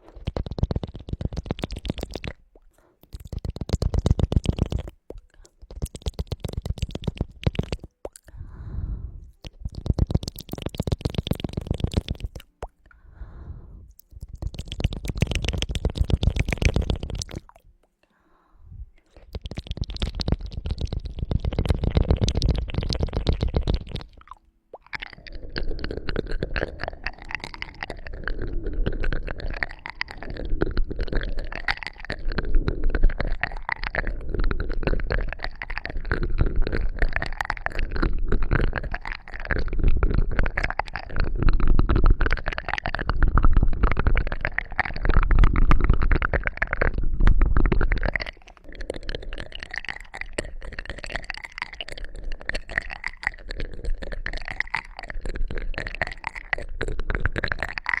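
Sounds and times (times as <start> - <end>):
crackling and scratching on microphone: 0.0 - 12.8, 13.7 - 18.0, 18.9 - 58.0.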